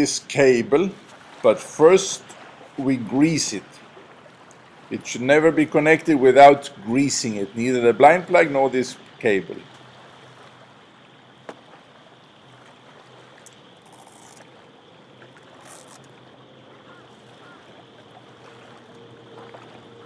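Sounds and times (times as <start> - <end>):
background hiss with low hum: 0.0 - 20.0.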